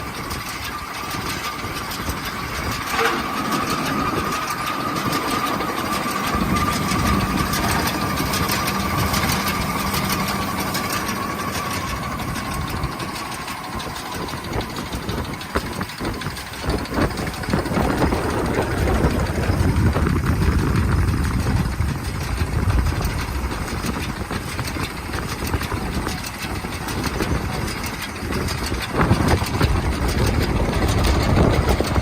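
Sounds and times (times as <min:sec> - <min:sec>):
deeper steady hum: 0:00.0 - 0:32.0
thin steady whine: 0:00.0 - 0:32.0
tractor engine running: 0:00.0 - 0:32.0.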